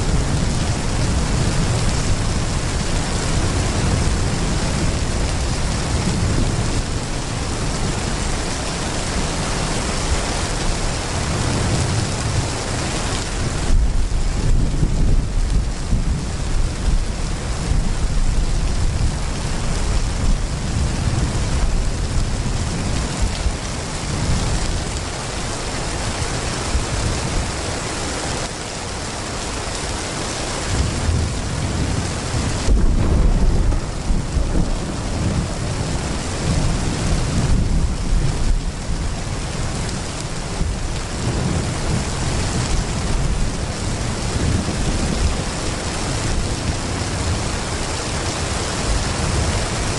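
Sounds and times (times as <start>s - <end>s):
low thunder rumbling: 0.0s - 27.8s, 30.5s - 49.9s
heavy rain pouring: 0.0s - 49.9s.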